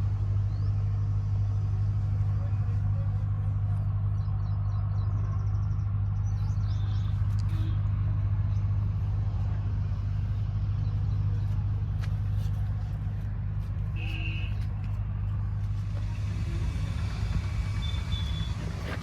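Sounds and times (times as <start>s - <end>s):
steady low motor drone: 0.0s - 19.0s.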